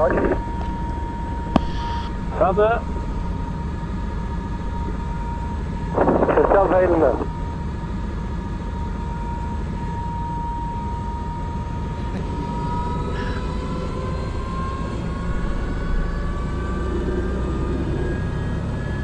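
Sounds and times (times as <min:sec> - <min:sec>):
helicopter turbine and rotor noise: 0:00.0 - 0:19.0.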